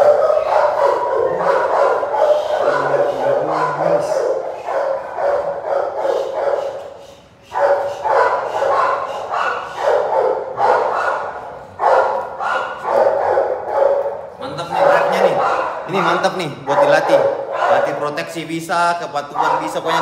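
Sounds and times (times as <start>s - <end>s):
puppy barking: 0.0s - 6.9s, 7.6s - 18.1s, 19.3s - 20.0s.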